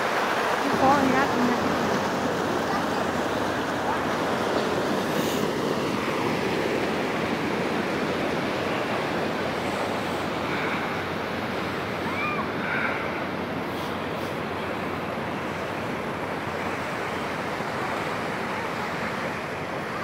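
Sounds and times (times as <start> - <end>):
water rushing over spillway: 0.0 - 20.0.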